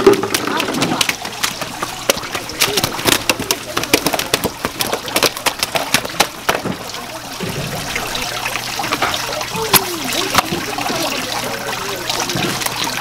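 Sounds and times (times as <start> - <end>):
fish slapping on wet concrete: 0.0 - 7.5, 8.5 - 13.0
water trickling: 0.0 - 13.0.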